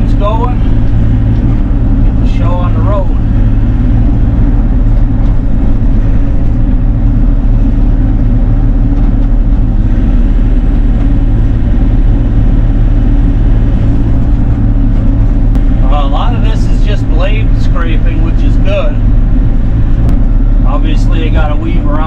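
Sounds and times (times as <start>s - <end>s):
mini excavator diesel engine running: 0.0s - 22.0s.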